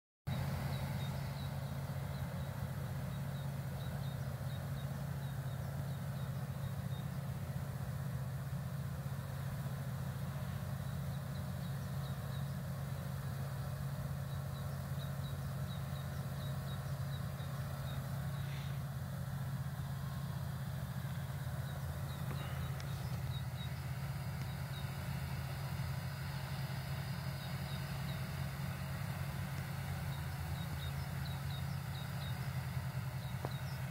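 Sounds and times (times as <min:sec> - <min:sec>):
tractor engine idling: 0:00.3 - 0:33.9.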